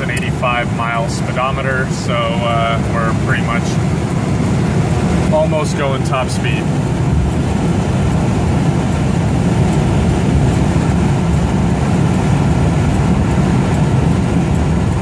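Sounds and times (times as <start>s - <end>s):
car cabin driving rumble: 0.0s - 15.0s.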